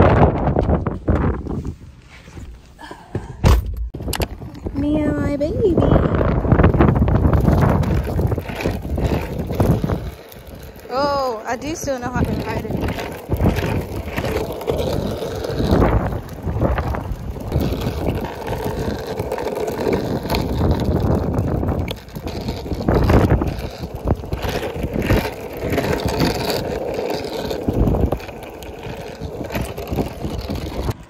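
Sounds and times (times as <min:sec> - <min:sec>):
wind buffeting microphone: 0:00.0 - 0:02.0, 0:03.2 - 0:31.0.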